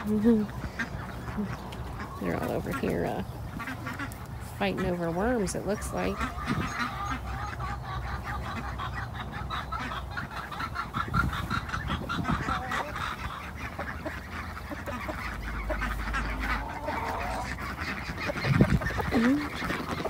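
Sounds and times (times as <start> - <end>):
ducks quacking: 0.0 - 20.0
hens clucking: 0.0 - 20.0.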